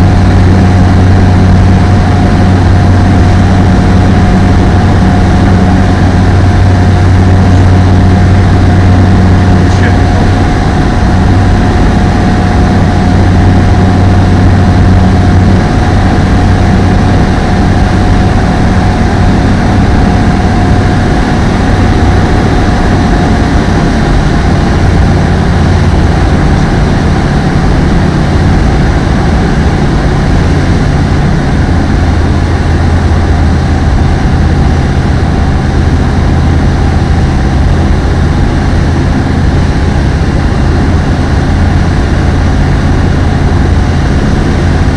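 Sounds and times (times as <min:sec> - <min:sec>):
aeroplane engine drone: 0:00.0 - 0:44.9
propeller whine: 0:00.0 - 0:44.9.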